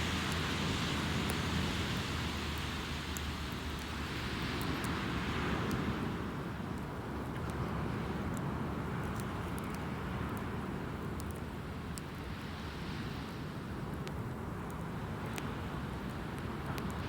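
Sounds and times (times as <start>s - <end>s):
bonfire crackling and popping: 0.0s - 12.6s, 13.6s - 17.0s.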